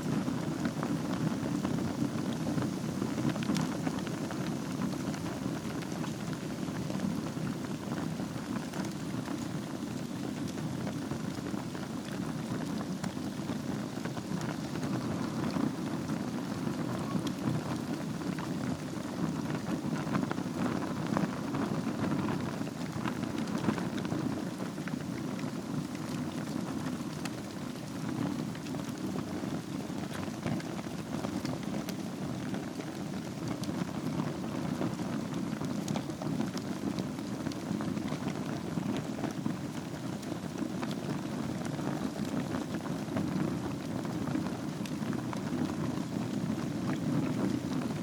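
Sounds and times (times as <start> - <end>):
fire crackles and pops: 0.0 - 48.0
wood fire burning: 0.0 - 48.0.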